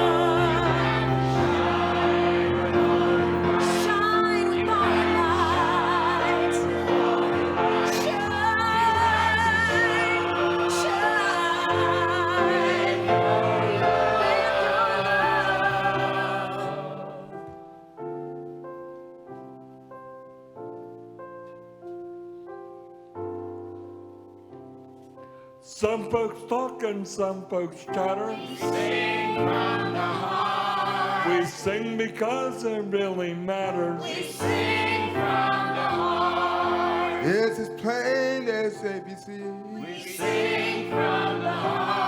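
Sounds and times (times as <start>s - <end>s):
choir singing: 0.0s - 17.6s, 25.7s - 42.0s
piano: 0.0s - 42.0s.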